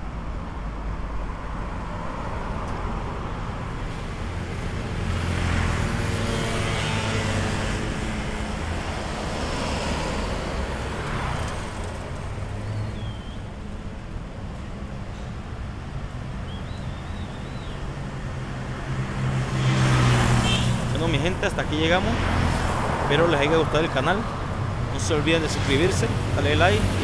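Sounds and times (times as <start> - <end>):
road traffic engine and tyre noise: 0.0 - 27.0.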